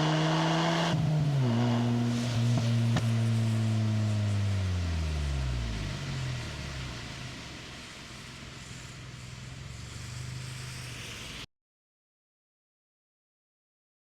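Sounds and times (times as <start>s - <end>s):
car engine exhaust drone: 0.0s - 11.4s.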